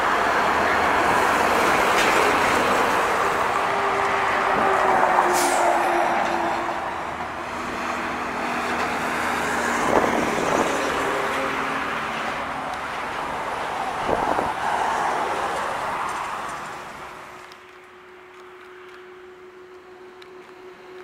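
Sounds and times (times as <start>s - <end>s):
trucks driving past: 0.0s - 21.0s.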